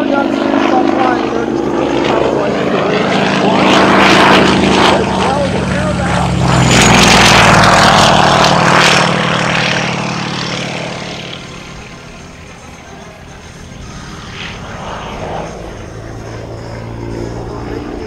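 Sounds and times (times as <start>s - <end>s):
propeller plane engine passing: 0.0s - 18.0s.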